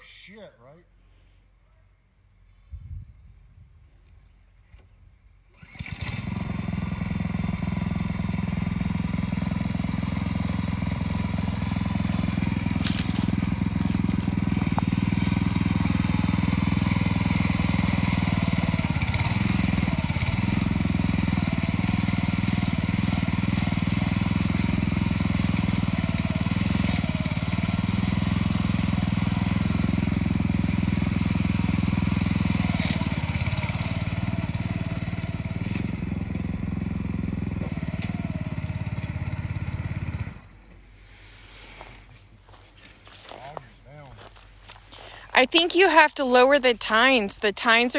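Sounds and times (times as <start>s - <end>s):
rototiller engine running: 5.5s - 47.9s.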